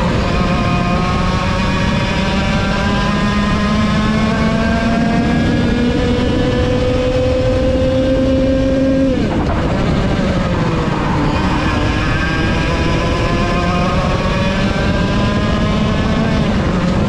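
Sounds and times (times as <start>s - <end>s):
kart engine at full throttle: 0.0s - 17.0s.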